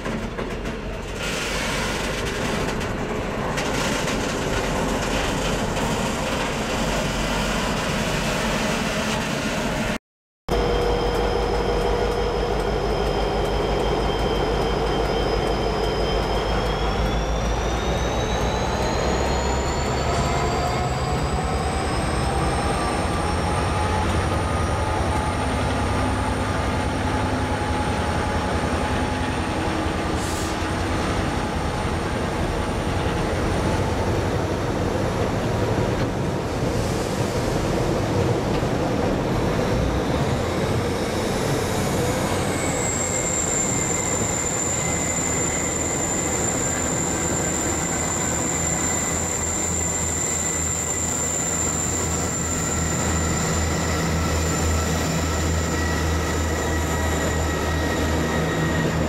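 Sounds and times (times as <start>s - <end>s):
diesel locomotive passing: 0.0s - 59.0s
high-pitched train squeal: 0.9s - 2.9s, 3.5s - 35.7s, 39.4s - 59.0s.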